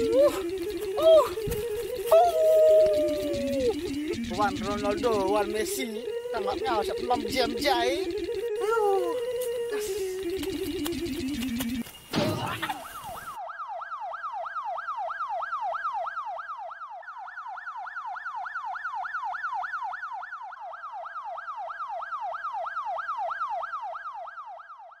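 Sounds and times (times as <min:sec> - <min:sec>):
yelp siren wailing: 0:00.0 - 0:25.0.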